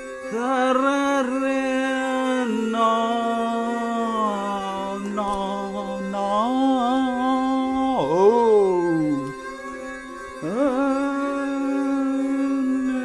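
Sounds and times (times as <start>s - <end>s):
electronic voice-like drone: 0.3s - 9.7s, 10.4s - 13.0s.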